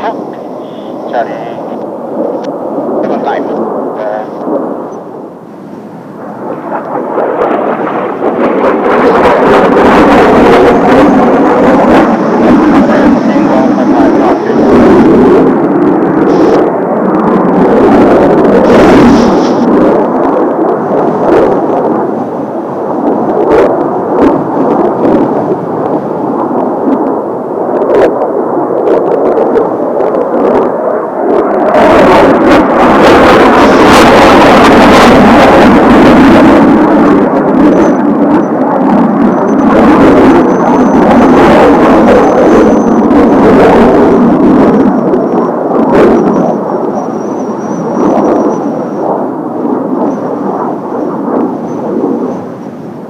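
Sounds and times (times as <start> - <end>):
jet roar: 0.0 - 53.0
wind buffeting microphone: 0.0 - 53.0.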